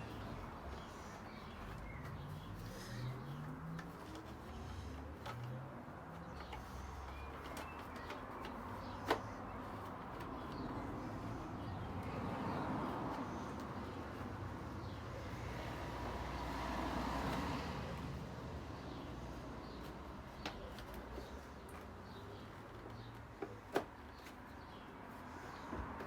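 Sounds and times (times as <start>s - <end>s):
road traffic passing: 0.0s - 26.0s.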